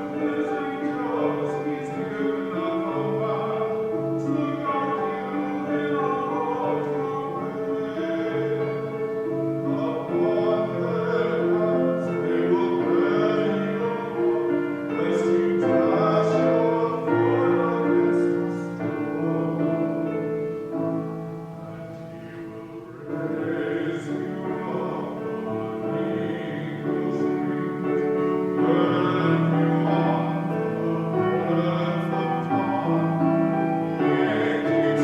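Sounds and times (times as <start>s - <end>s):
slow sacred song with accompaniment: 0.0s - 35.0s.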